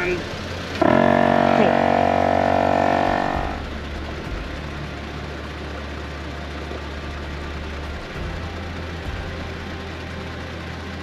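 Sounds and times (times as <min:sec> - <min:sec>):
air compressor droning: 0:00.0 - 0:11.0.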